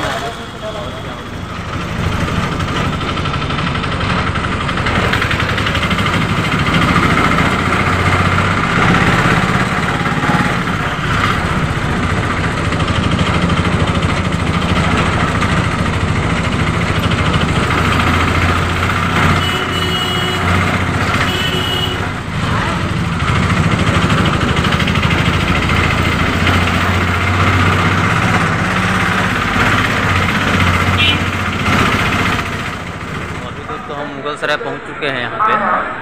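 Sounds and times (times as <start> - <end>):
auto-rickshaw engine running: 0.0 - 35.2
road noise: 0.0 - 36.0.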